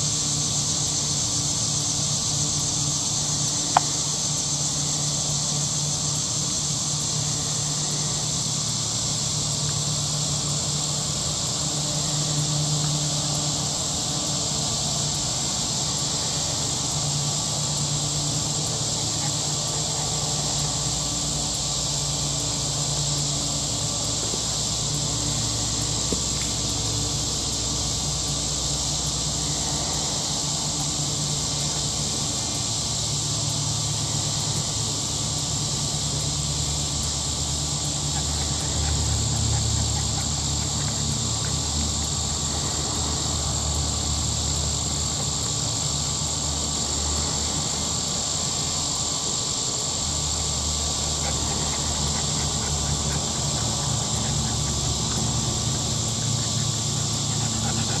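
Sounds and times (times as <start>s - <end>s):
high hiss: 0.0s - 58.0s.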